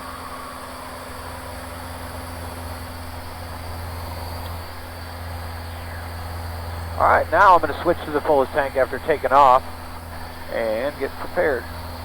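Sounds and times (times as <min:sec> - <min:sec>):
aircraft piston engine humming: 0:00.0 - 0:12.0.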